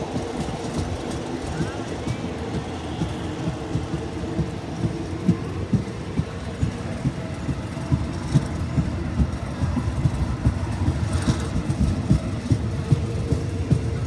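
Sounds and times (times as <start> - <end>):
train rumbling: 0.0 - 14.0
wheels knocking on track: 0.0 - 14.0.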